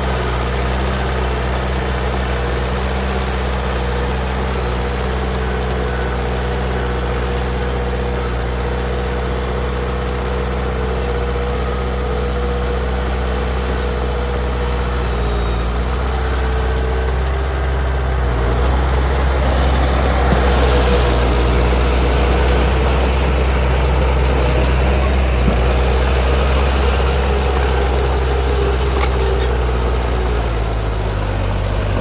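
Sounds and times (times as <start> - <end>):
bulldozer diesel engine rumbling: 0.0 - 32.0.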